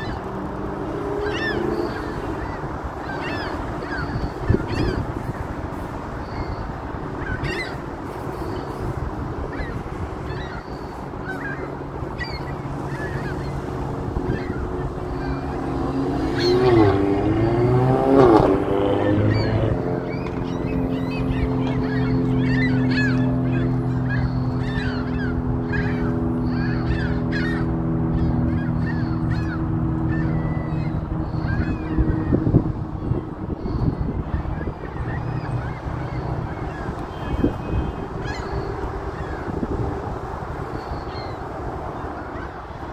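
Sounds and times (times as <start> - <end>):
flock of birds calling: 0.0 - 42.9
gulls crying: 0.0 - 42.9.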